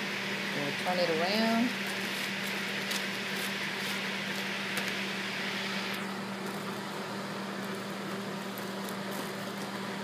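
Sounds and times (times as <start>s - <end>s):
dehydrator fan hum: 0.0s - 10.0s.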